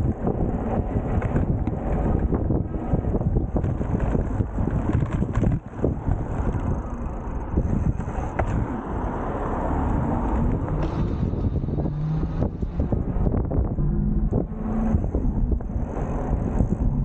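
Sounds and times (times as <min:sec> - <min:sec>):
tyre and road rumble: 0:00.0 - 0:17.0
wind buffeting microphone: 0:00.0 - 0:17.0.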